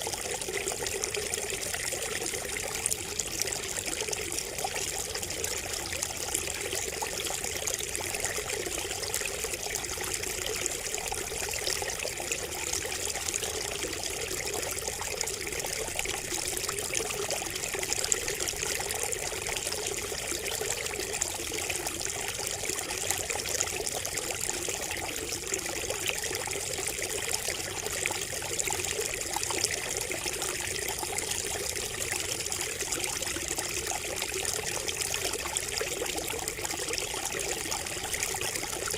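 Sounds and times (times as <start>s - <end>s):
water trickling from spout: 0.0s - 38.9s.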